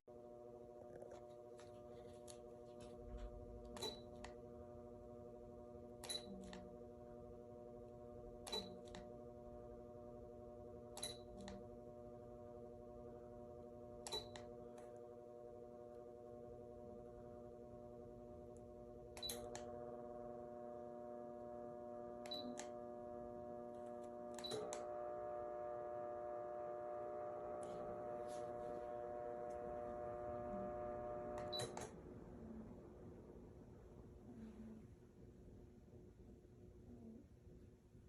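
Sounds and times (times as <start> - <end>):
ceiling fan motor hum: 0.1 - 38.0.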